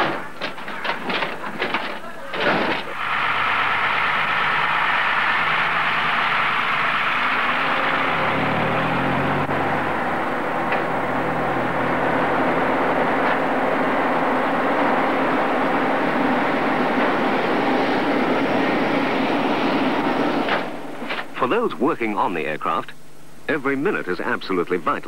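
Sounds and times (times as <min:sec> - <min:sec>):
vehicle and machinery engines roaring: 0:00.0 - 0:21.4.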